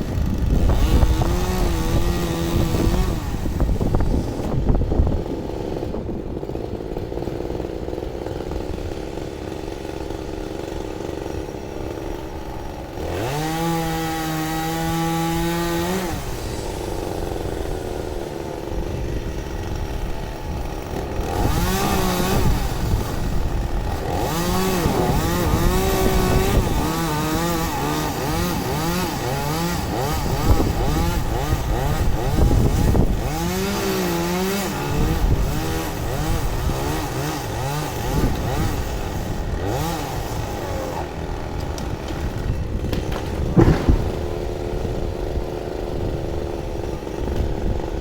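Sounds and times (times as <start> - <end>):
chainsaw revving: 0.0 - 48.0.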